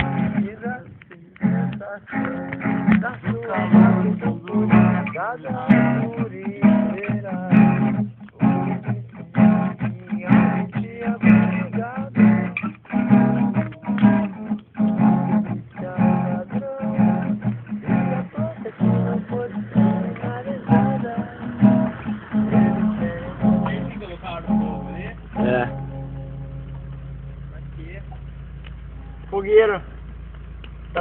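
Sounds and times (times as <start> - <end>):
acoustic guitar strumming: 0.0 - 28.6.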